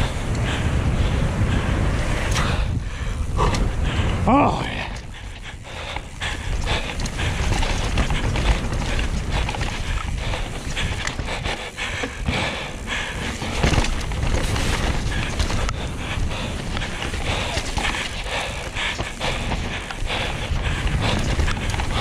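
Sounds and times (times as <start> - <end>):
bike rattling over bumps: 0.0 - 22.0
bike tyre noise: 0.0 - 22.0
wind buffeting microphone: 0.0 - 22.0.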